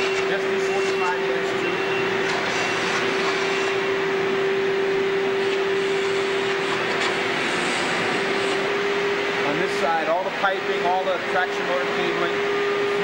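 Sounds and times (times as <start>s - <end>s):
workshop machinery drone: 0.0s - 13.0s.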